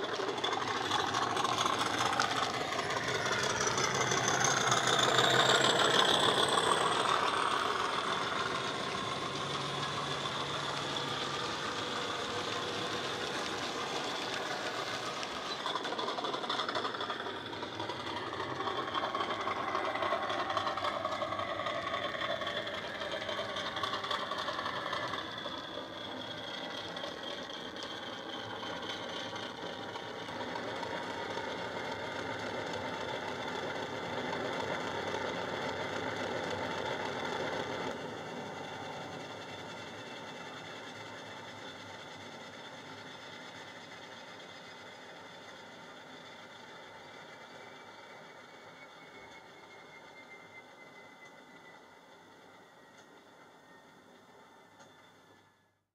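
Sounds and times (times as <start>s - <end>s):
diesel engine sound from speaker: 0.0s - 54.7s.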